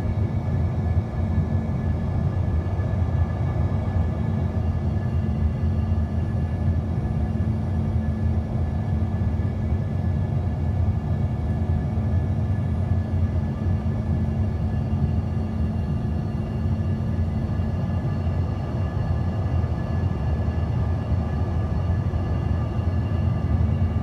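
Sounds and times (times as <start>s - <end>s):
airliner engines rumbling: 0.0s - 24.0s
faint steady whine: 0.0s - 24.0s.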